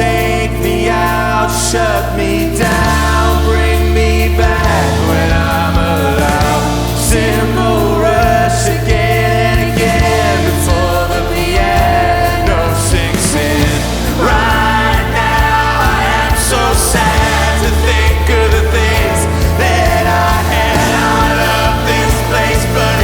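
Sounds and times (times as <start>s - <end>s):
live band playing instrumental: 2.6s - 23.0s.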